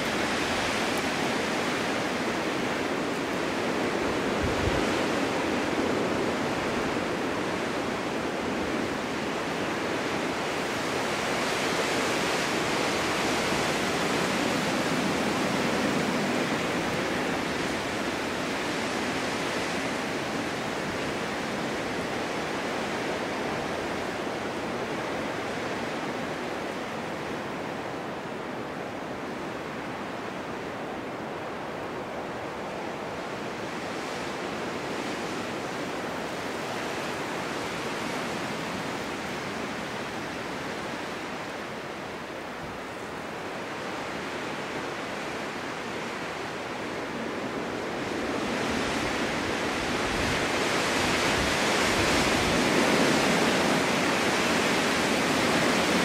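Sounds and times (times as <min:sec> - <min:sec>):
wind blowing in snowstorm: 0:00.0 - 0:56.0.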